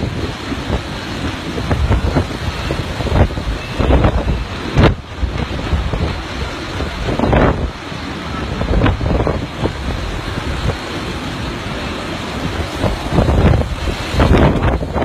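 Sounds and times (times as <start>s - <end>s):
water churning and breaking: 0.0s - 15.0s
wind gusts buffeting microphone: 0.0s - 15.0s.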